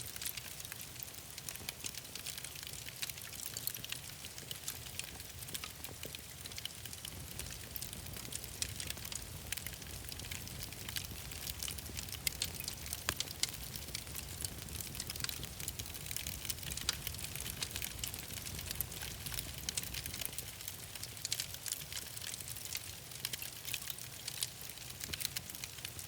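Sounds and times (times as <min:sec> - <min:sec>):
fire crackles and pops: 0:00.0 - 0:26.0
wood fire burning: 0:00.0 - 0:26.0.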